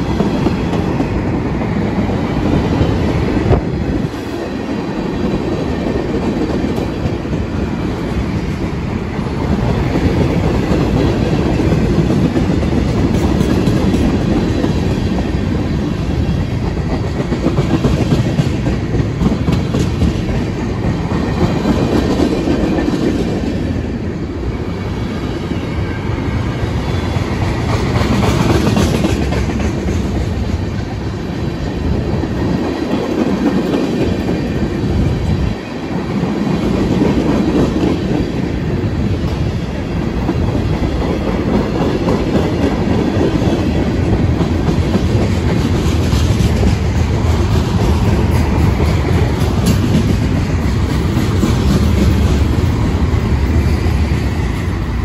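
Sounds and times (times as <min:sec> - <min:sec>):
clickety-clack over rail joints: 0:00.0 - 0:23.8, 0:26.9 - 0:55.0
train wheels rumbling on rail: 0:00.0 - 0:55.0.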